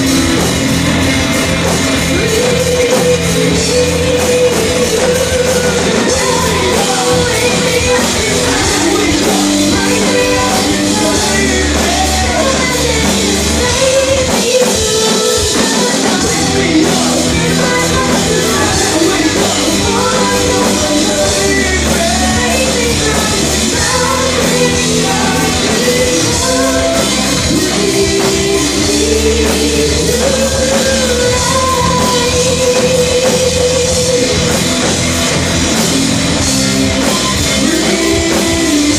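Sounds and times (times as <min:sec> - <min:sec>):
rock song with singing: 0:00.0 - 0:38.9.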